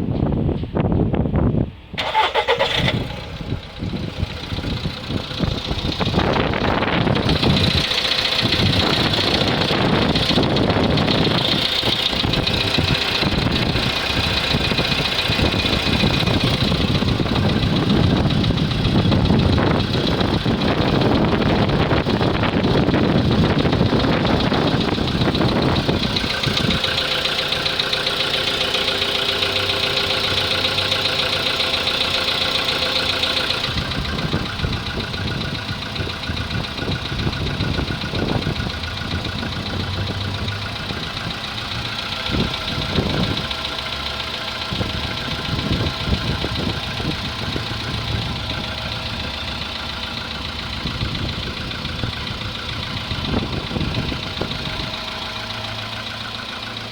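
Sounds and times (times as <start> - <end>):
engine running: 1.8 - 56.9.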